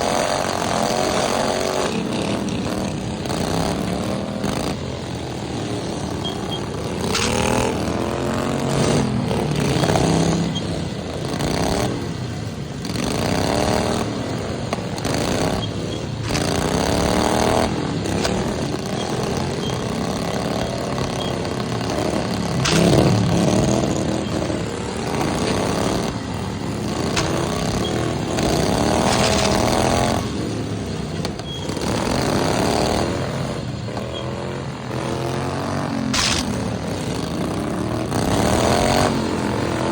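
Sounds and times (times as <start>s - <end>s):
lawnmower engines revving: 0.0s - 39.9s.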